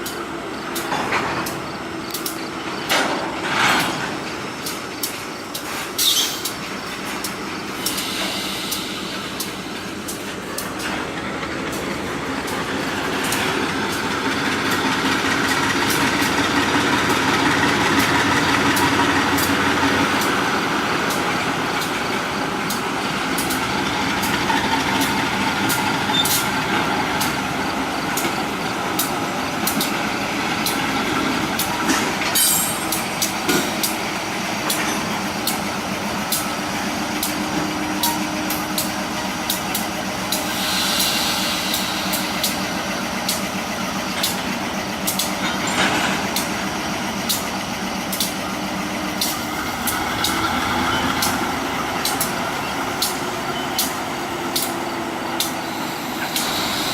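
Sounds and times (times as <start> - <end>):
freight train rumbling: 0.0 - 56.9
wheels clicking over rail joints: 0.0 - 56.9.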